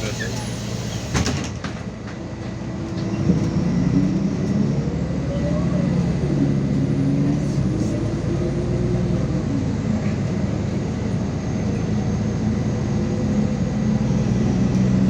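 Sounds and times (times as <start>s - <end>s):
bus engine droning with whine: 0.0s - 15.0s.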